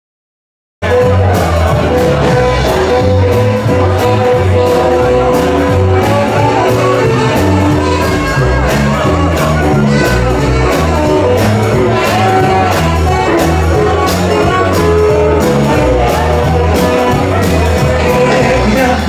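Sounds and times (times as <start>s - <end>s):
bass line: 0.8s - 19.0s
guitar: 0.8s - 19.0s
rock and roll band playing: 0.8s - 19.0s.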